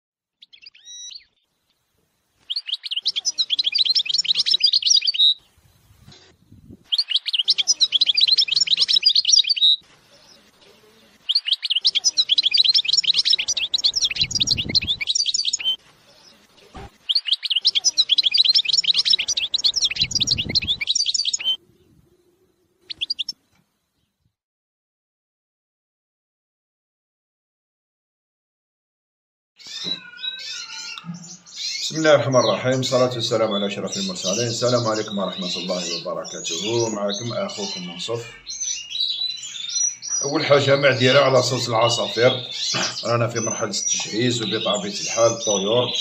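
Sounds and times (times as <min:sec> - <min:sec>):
finch singing: 0:00.4 - 0:01.4, 0:02.4 - 0:23.5, 0:29.6 - 0:46.0.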